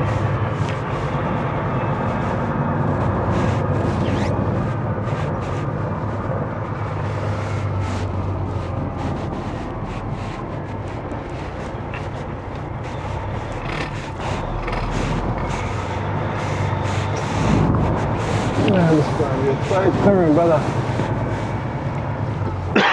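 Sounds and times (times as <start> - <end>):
diesel truck engine running: 0.0 - 22.9.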